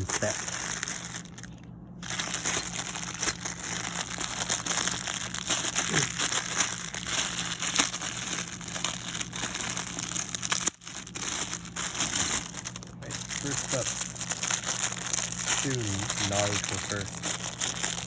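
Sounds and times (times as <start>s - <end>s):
plastic packaging crinkling: 0.0s - 18.0s.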